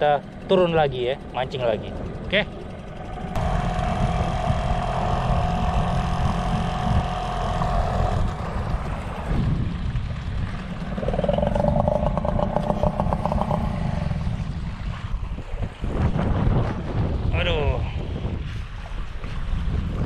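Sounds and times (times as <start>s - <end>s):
outboard motor whining: 0.0s - 16.9s
wind buffeting microphone: 0.0s - 20.0s.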